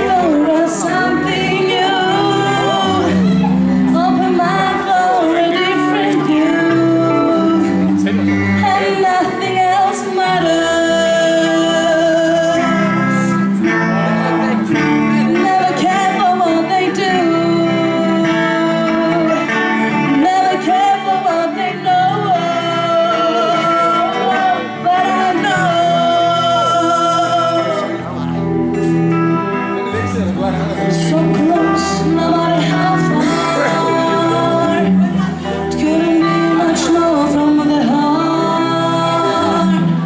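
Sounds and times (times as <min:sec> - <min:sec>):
woman singing into microphone: 0:00.0 - 0:29.6, 0:30.8 - 0:40.0
electric guitar: 0:00.0 - 0:40.0.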